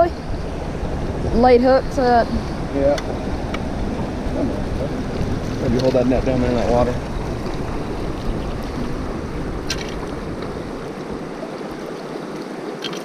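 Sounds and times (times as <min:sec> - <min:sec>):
low microphone rumble: 0:00.0 - 0:12.2
river water rushing: 0:00.0 - 0:13.0.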